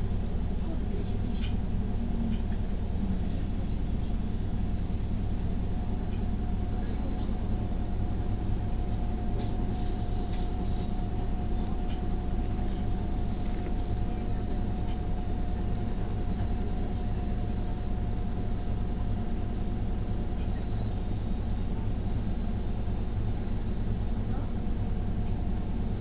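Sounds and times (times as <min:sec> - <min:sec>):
bus engine rumble: 0:00.0 - 0:26.0
constant whine: 0:00.0 - 0:26.0.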